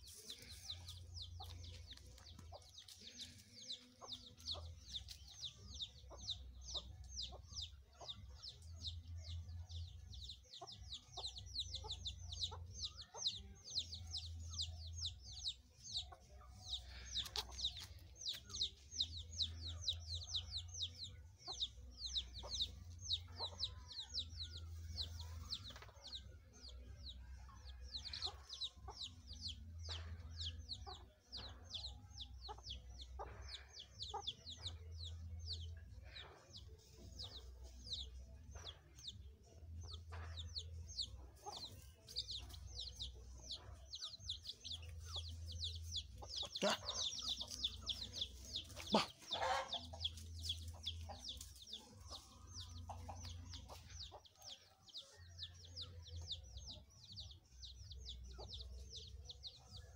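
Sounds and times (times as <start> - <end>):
chickens clucking: 0.0 - 59.9
chicks chirping: 0.0 - 59.9.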